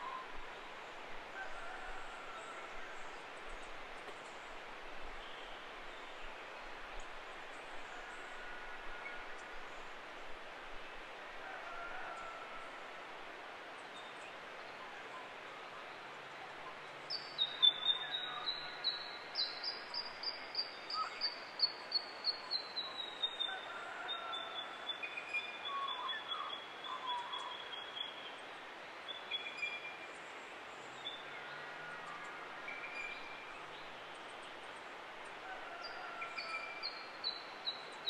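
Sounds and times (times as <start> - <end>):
steady background hiss: 0.0 - 38.0.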